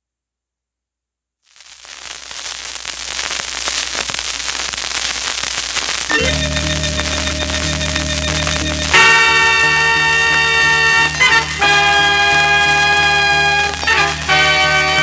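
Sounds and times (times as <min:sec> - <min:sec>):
vinyl crackle and pops: 0:01.4 - 0:15.0
record music with held notes: 0:01.6 - 0:15.0.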